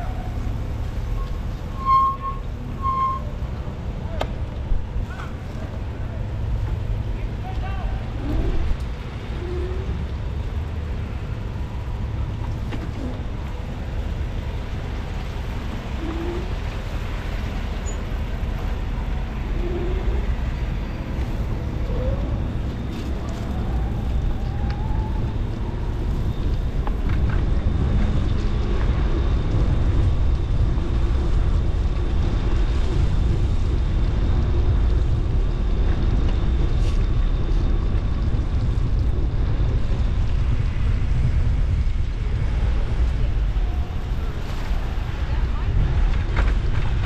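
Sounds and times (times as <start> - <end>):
wind rumble on microphone: 0.0 - 47.0.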